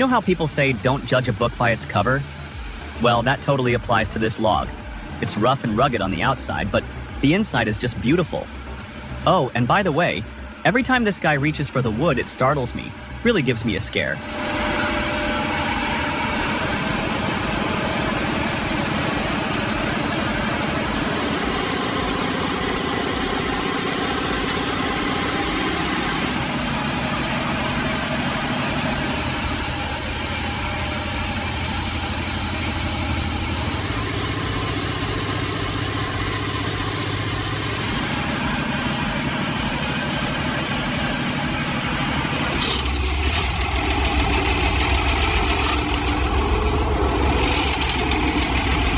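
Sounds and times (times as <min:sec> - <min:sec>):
deep hum: 0:00.0 - 0:48.9
heavy machine engine running: 0:00.0 - 0:48.9.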